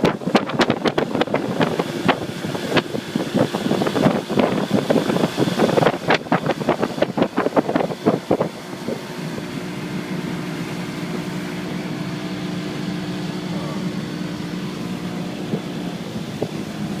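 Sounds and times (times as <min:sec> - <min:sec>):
motorboat engine humming: 0:00.0 - 0:17.0
water slapping and splashing: 0:00.0 - 0:17.0.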